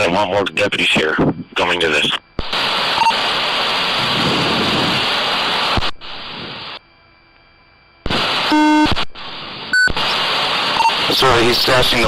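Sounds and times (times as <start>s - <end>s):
radio static hiss: 0.0s - 6.8s, 8.0s - 12.0s.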